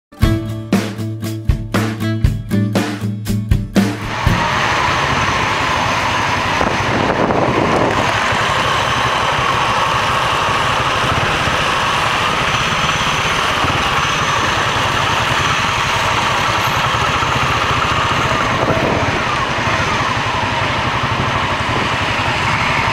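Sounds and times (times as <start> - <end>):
motorcycle engine running: 3.8 - 22.9.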